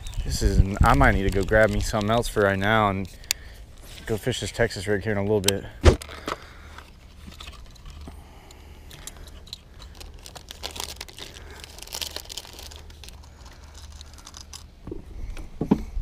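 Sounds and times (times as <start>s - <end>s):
hooks and lures rattling: 0.0s - 4.3s, 6.0s - 14.7s.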